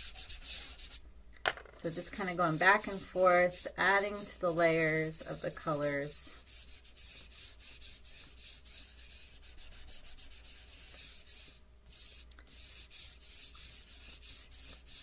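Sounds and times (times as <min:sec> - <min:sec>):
hand rubbing pastel on paper: 0:00.0 - 0:01.0, 0:01.8 - 0:15.0.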